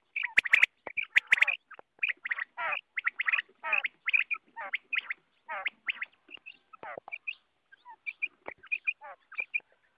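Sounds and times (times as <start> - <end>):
quail calling: 0.0 - 9.8.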